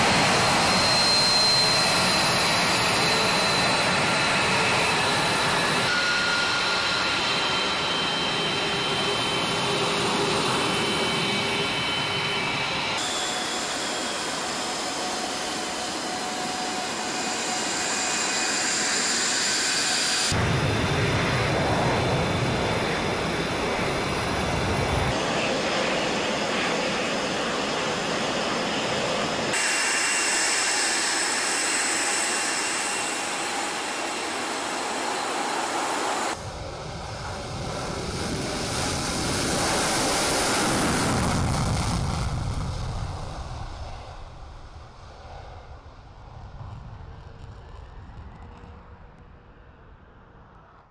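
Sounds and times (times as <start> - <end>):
jet engines roaring and whining: 0.0 - 50.9.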